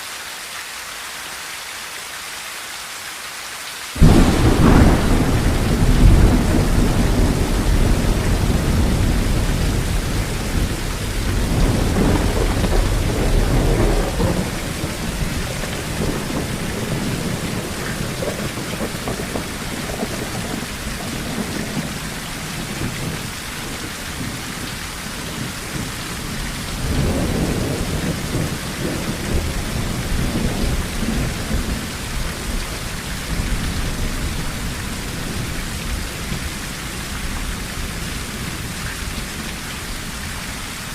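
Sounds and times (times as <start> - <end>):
rain on a tin roof: 0.0 - 40.9
thunder rumbling: 4.0 - 39.5.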